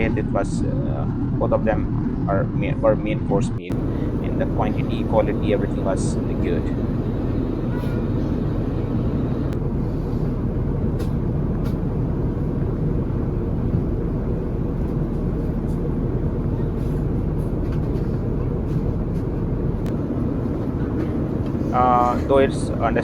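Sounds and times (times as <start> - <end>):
airliner cabin rush: 3.6 - 23.0.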